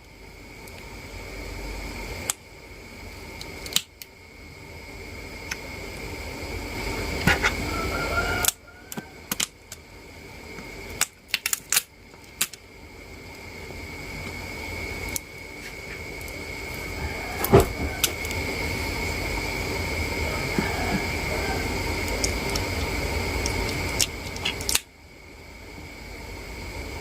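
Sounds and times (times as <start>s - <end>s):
thin high whine: 0.0s - 11.2s, 11.8s - 27.0s
steady hum: 0.0s - 27.0s.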